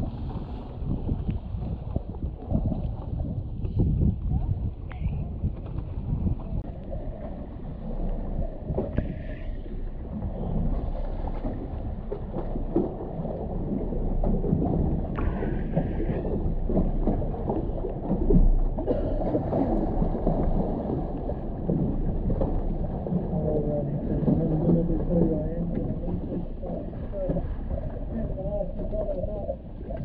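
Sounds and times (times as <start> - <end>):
water rushing past hulls: 0.0 - 30.0
wind buffeting microphone: 0.0 - 30.0.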